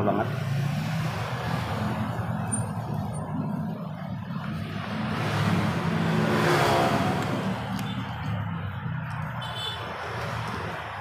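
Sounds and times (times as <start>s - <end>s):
vehicle engine humming: 0.1s - 11.0s.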